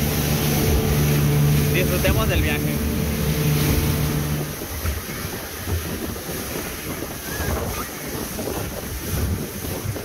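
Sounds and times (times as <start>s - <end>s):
water rushing past hull: 0.0s - 10.0s
wind buffeting microphone: 0.0s - 10.0s.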